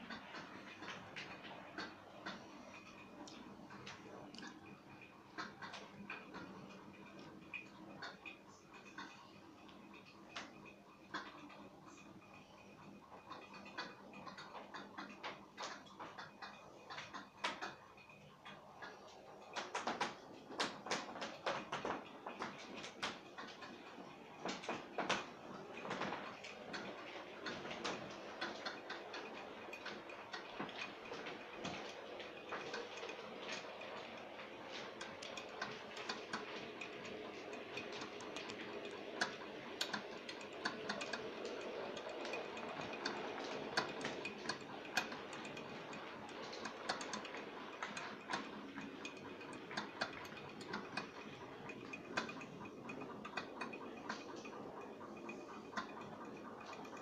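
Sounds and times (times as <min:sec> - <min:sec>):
model trains rolling rumble: 0:00.0 - 0:57.0
wheels clicking on rails: 0:00.0 - 0:57.0.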